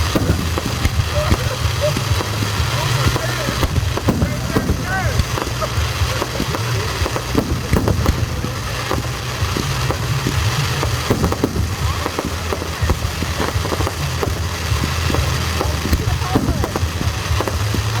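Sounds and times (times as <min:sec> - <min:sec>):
fireworks bangs and crackles: 0:00.0 - 0:18.0
steady low rumble: 0:00.0 - 0:18.0.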